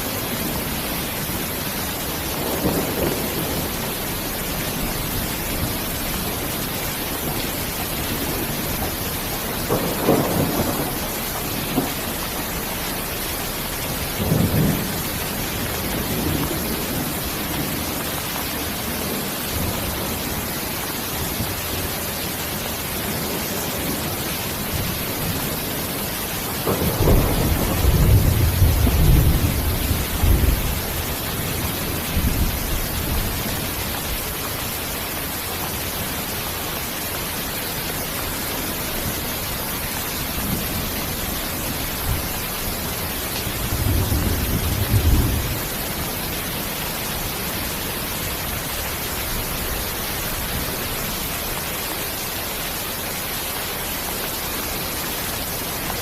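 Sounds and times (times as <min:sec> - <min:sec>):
thunder rumbling: 0:00.0 - 0:51.6
heavy rain: 0:00.0 - 0:56.0.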